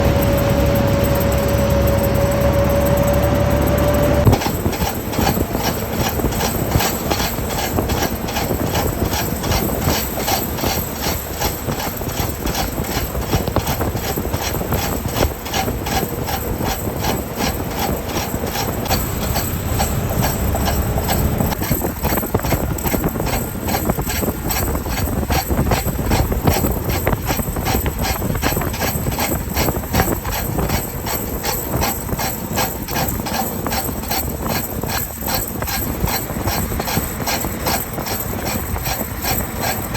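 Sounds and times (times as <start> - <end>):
snow chains clanking: 0.0 - 39.9
truck rolling rumble: 0.0 - 39.9.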